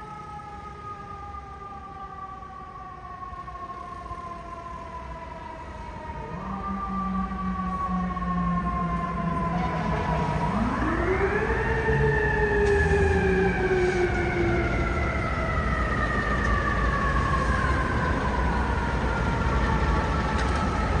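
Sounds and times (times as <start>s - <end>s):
engine and traffic rumble: 0.0s - 21.0s.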